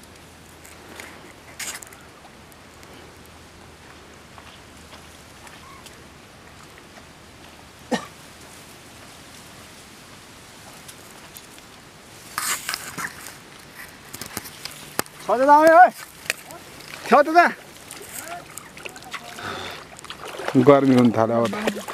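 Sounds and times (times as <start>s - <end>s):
dry reeds rustling and crackling: 0.0s - 21.9s.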